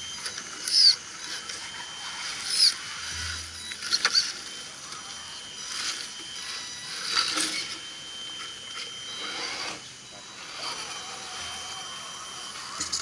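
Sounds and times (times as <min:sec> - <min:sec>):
toy truck drivetrain whirring: 0:00.0 - 0:13.0.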